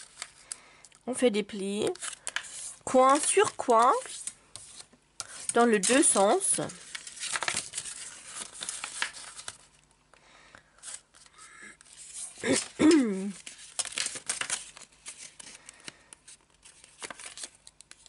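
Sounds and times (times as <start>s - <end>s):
paper rustling and crinkling: 0.0s - 0.6s, 1.7s - 9.8s, 10.8s - 18.0s.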